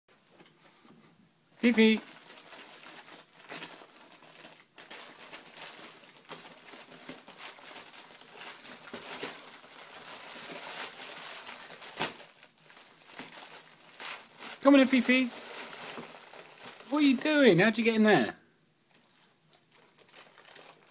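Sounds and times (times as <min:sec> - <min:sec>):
paper lampshade crinkling: 0:01.7 - 0:17.5, 0:19.0 - 0:20.9.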